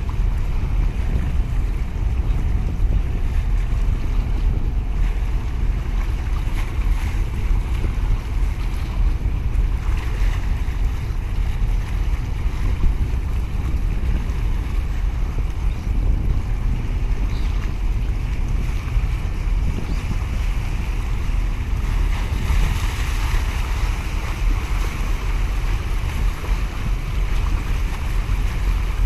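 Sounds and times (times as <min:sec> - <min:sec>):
sea water washing and lapping: 0:00.0 - 0:29.0
wind buffeting microphone: 0:00.0 - 0:29.0.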